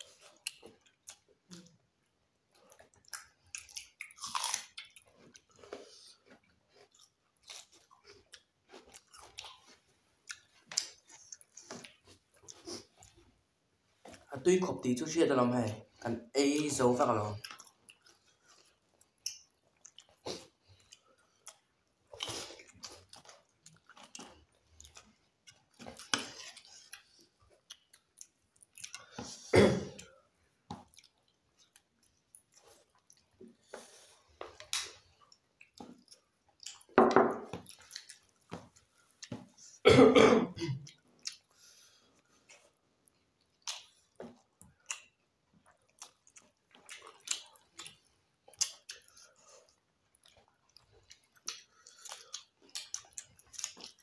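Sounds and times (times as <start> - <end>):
chewing: 0.0 - 13.4, 16.6 - 39.8, 40.8 - 54.0.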